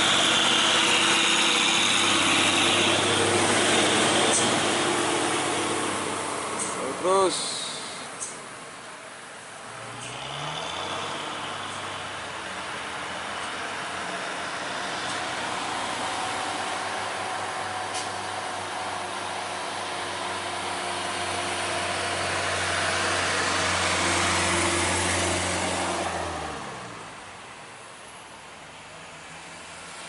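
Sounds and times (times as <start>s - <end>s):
diesel truck engines running: 0.0s - 30.0s.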